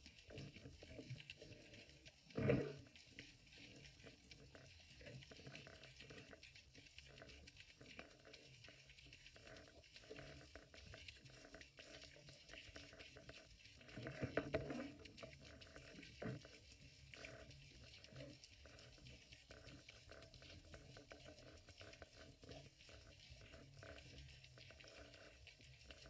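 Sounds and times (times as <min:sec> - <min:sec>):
faint underwater clicks: 0:00.0 - 0:26.0
muffled underwater water wash: 0:00.0 - 0:26.0.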